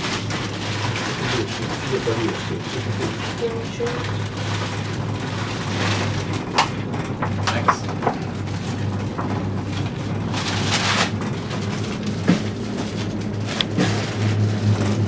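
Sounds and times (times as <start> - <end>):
cable car hum: 0.0 - 15.0.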